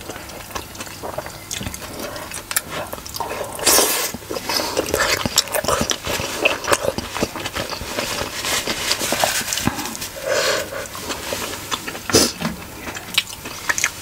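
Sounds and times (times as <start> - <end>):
chewing with small clicks: 0.0 - 10.0, 10.8 - 14.0.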